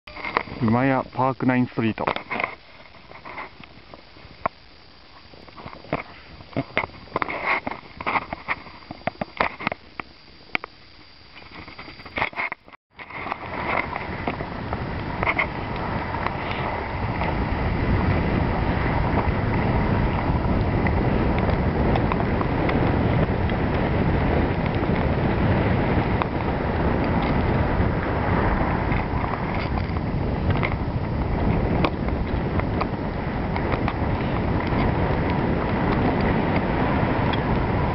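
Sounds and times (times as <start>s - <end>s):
skis sliding on snow: 0.1s - 9.9s, 11.3s - 37.9s
wind rushing on microphone: 0.1s - 37.9s.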